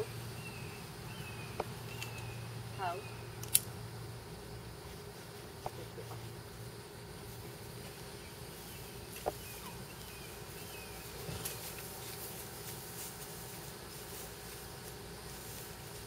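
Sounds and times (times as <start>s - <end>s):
faint outdoor background: 0.0s - 16.0s.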